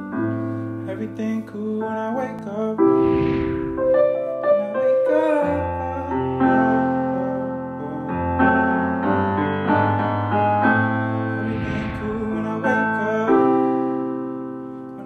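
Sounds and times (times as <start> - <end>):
song with sustained piano chords: 0.0 - 15.0.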